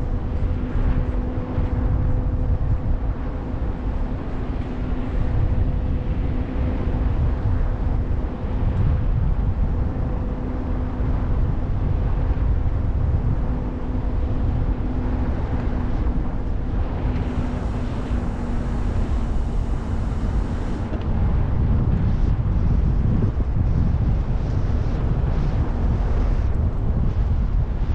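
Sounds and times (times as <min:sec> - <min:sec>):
steady low hum: 0:00.0 - 0:27.9
wind buffeting microphone: 0:00.0 - 0:27.9.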